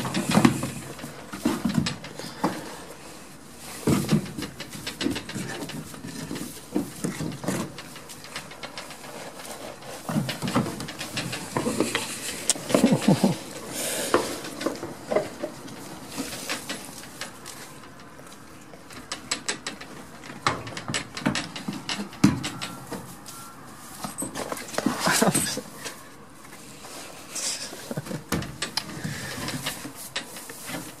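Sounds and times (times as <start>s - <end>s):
goats moving in wooden pen: 0.0s - 31.0s.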